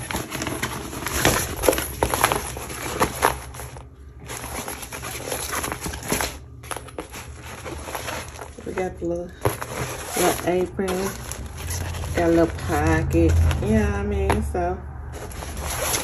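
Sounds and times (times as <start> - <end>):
packaging rustling and crinkling: 0.0 - 14.4, 15.0 - 16.0.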